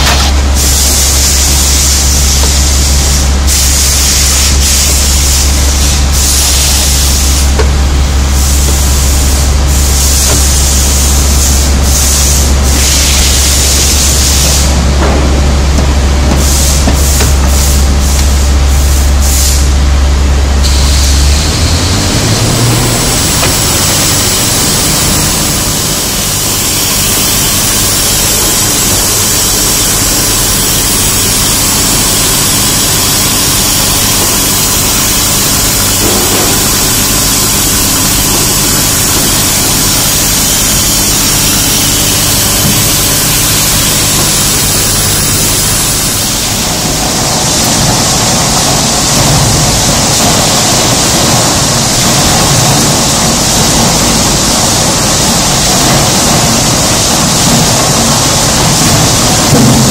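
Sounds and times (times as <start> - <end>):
compressed air rushing through hose: 0.0 - 19.8, 20.6 - 59.9
engine running: 0.0 - 59.9.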